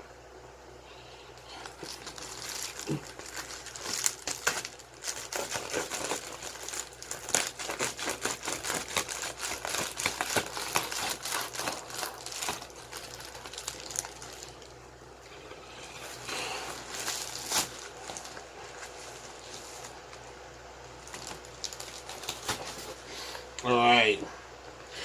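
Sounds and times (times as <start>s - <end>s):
packaging crinkling and rustling: 1.4s - 14.8s, 15.8s - 23.1s.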